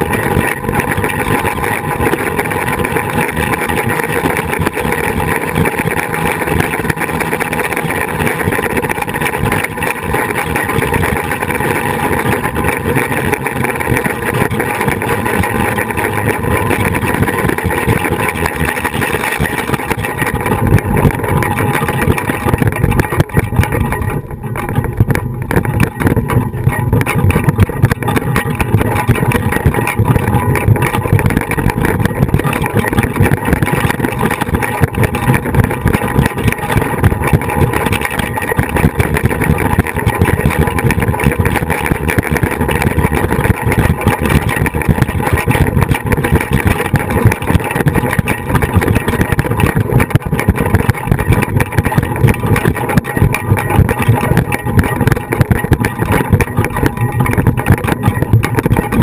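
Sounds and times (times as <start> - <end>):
pulleys whirring on cable: 0.0 - 59.0.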